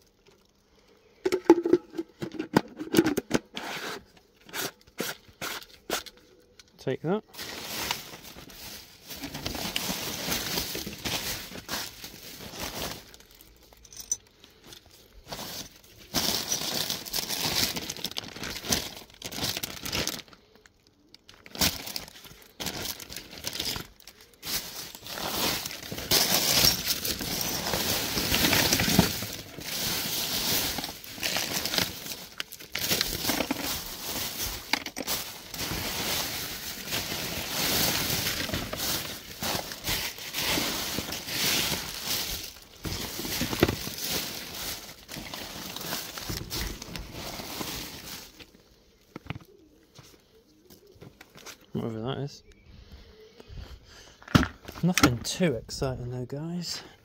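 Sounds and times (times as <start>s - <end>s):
plastic bags crinkling and rustling: 0.0s - 3.4s, 4.0s - 51.8s.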